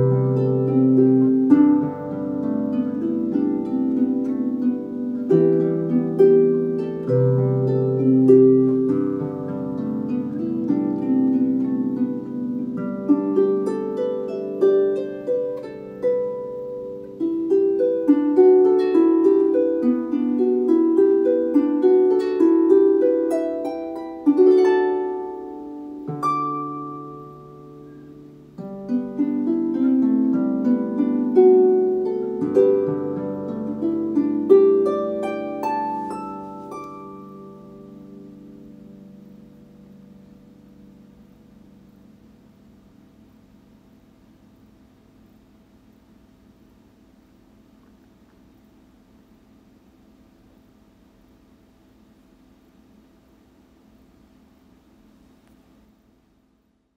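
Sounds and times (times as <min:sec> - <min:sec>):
solo harp music: 0:00.0 - 0:55.6.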